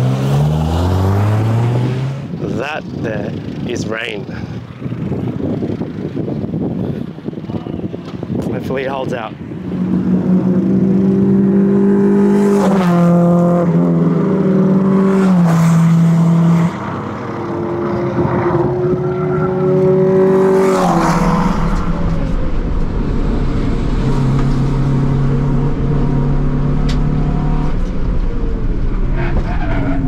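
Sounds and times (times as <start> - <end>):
race cars passing by: 0.0 - 4.8, 9.6 - 30.0.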